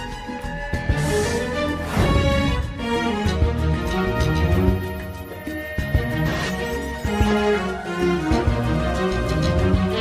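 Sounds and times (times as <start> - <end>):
dramatic soundtrack music: 0.0 - 10.0.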